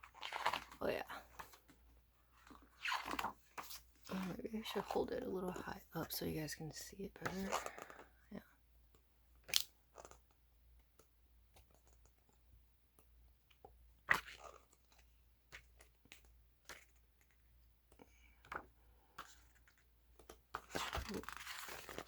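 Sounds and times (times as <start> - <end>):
book pages rustling: 0.0 - 5.7, 7.2 - 8.1, 8.9 - 12.4, 13.0 - 22.0.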